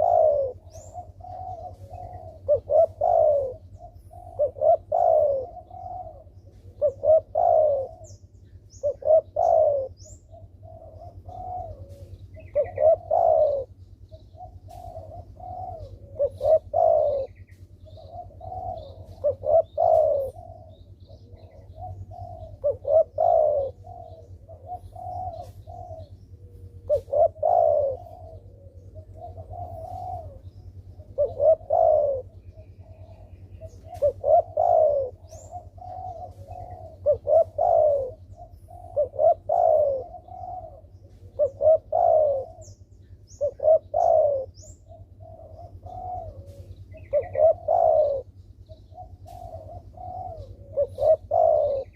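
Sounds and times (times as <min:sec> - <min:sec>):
dove cooing: 0:00.0 - 0:51.9
small bird chirping: 0:00.0 - 0:51.9.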